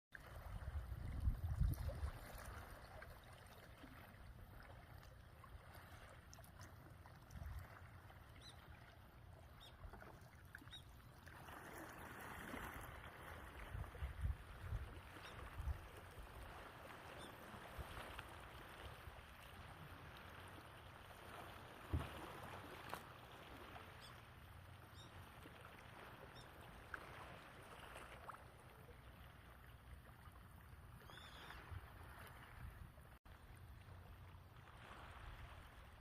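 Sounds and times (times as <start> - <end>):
small waves lapping shore: 0.1 - 36.0.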